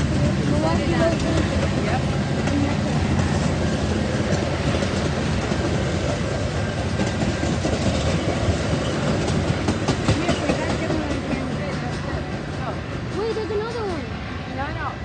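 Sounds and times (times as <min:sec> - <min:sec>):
wheels clicking over rail joints: 0:00.0 - 0:14.0
train rumbling past: 0:00.0 - 0:15.0.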